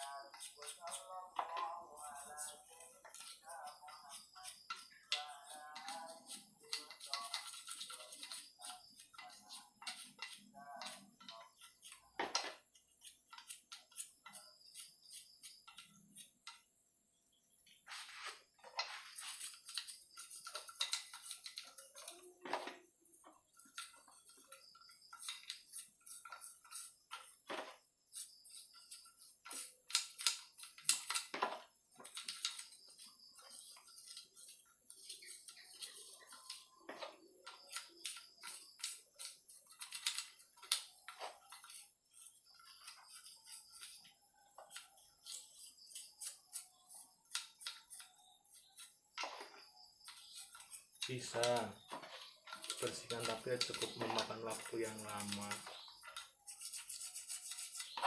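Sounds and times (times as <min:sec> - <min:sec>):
toothbrush scrubbing metal: 0:00.0 - 0:16.7, 0:18.8 - 0:22.4, 0:23.0 - 0:27.4, 0:28.1 - 0:31.3, 0:31.9 - 0:58.0.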